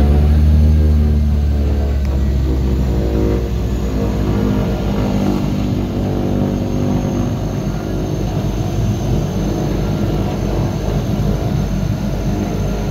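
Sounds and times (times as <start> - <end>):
turboprop engine drone: 0.0 - 12.9.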